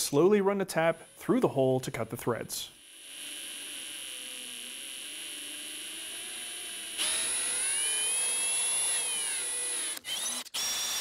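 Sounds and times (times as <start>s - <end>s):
drill motor whining: 0.7s - 1.7s, 2.8s - 11.0s.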